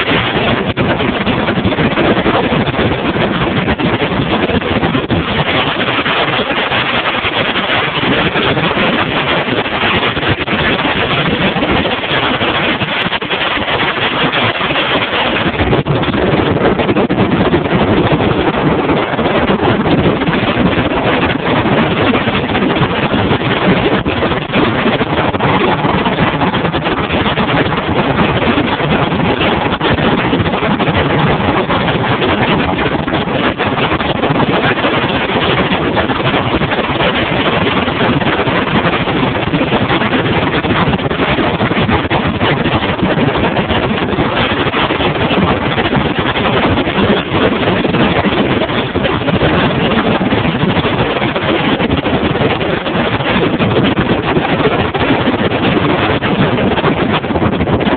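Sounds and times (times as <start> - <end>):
outboard motor roaring: 0.0 - 52.2.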